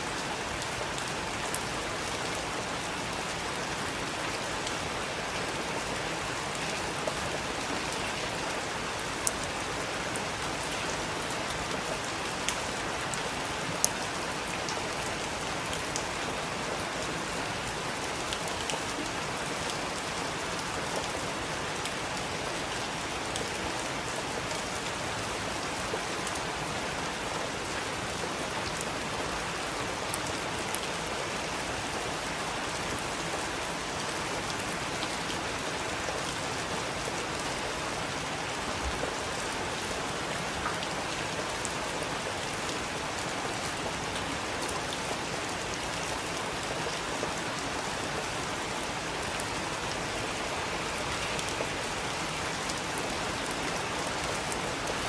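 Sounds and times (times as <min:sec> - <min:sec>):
heavy rain: 0:00.0 - 0:55.0
raindrops striking a surface: 0:00.0 - 0:55.0.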